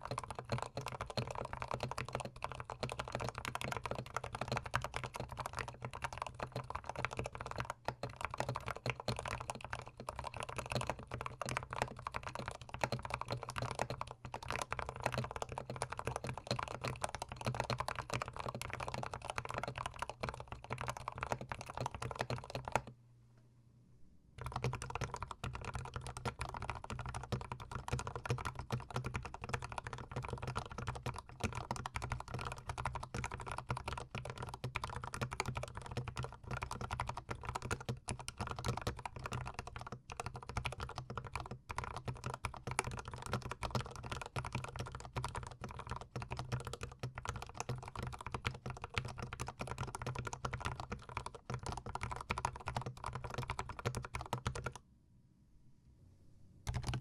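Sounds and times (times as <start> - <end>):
fast typing on mechanical keyboard: 0.0 - 22.9, 24.4 - 54.8, 56.7 - 57.0.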